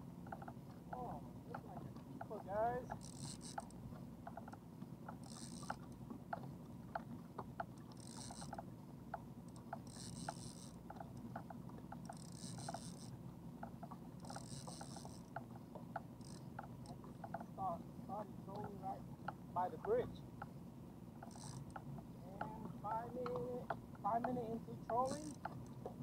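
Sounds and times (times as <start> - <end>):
boat engine drone: 0.0 - 26.0
light ticks: 0.2 - 17.6, 18.5 - 20.6, 21.2 - 26.0.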